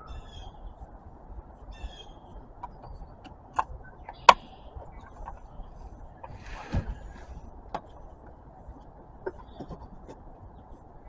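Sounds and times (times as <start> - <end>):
bird chirp: 0.0 - 11.0.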